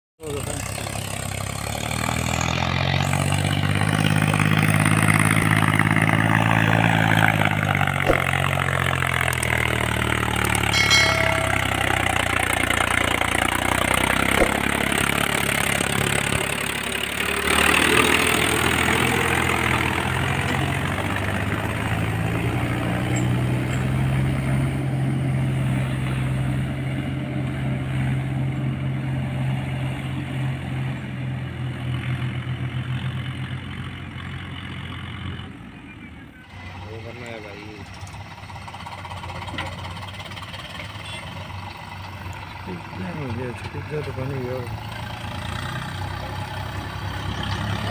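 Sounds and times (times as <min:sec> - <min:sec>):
tractor diesel engine: 0:00.2 - 0:47.9.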